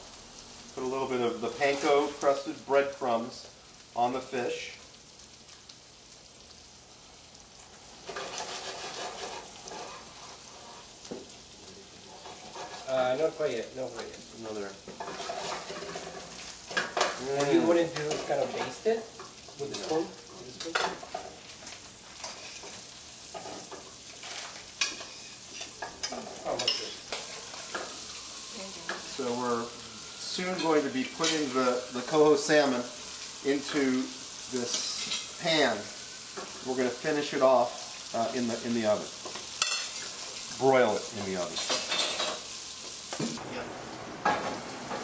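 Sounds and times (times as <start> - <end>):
fish sizzling in a frying pan: 0.0 - 45.0.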